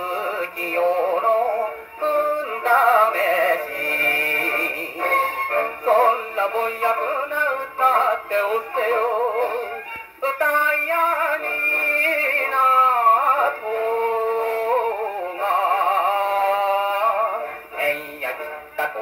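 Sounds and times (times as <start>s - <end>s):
faint record hiss: 0.0s - 19.0s
gramophone playing popular song: 0.0s - 19.0s.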